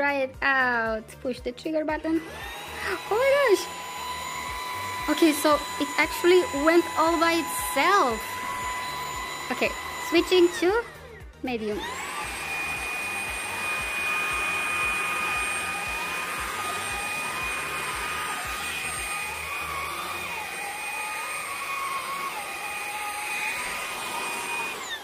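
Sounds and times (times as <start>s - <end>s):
vacuum cleaner motor whine: 2.2s - 25.0s.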